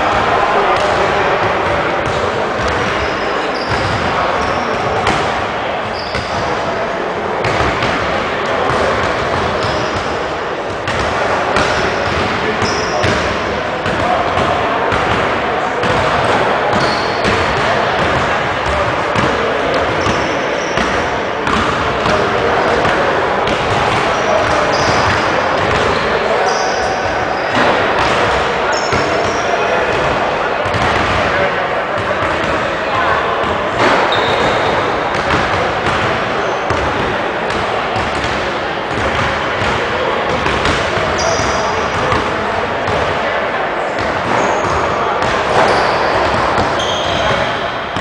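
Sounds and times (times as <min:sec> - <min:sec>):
echoing gymnasium noise: 0:00.0 - 0:48.0.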